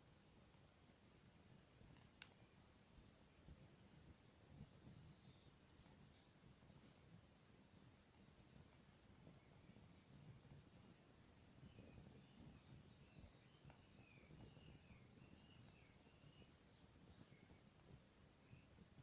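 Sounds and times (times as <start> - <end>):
campfire hissing and crackling: 0.0 - 19.0
small birds chirping: 0.0 - 19.0.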